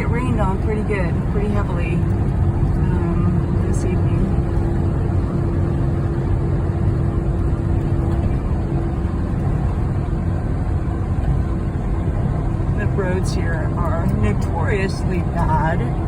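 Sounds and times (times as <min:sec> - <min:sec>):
car tyre and engine rumble: 0:00.0 - 0:16.0.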